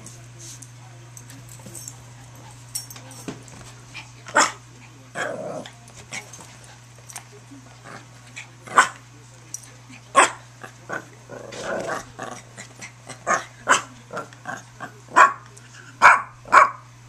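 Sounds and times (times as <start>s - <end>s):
dogs scuffling: 0.0s - 14.8s.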